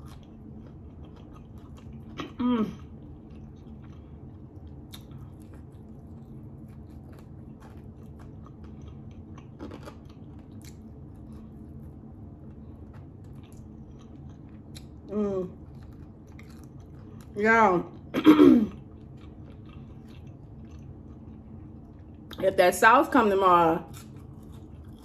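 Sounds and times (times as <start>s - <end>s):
chewing and wet mouth sounds: 0.0s - 18.1s, 18.7s - 22.4s, 23.8s - 25.0s
steady low hum: 0.0s - 25.0s.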